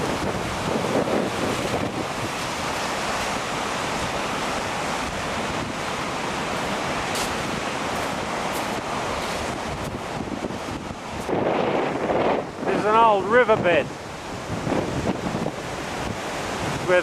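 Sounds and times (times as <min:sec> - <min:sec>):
ocean surf breaking on rocks: 0:00.0 - 0:17.0
wind on microphone: 0:00.0 - 0:17.0.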